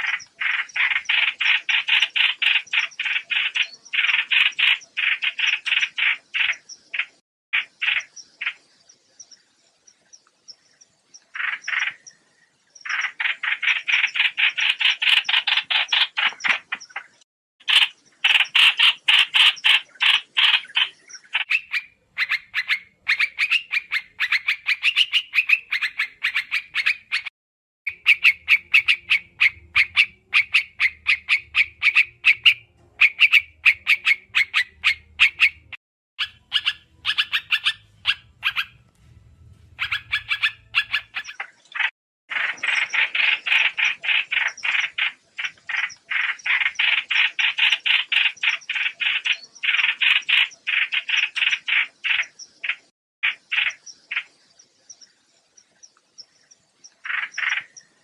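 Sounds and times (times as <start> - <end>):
songbird chattering calls: 0.0 - 27.3, 27.9 - 38.8, 39.8 - 58.0.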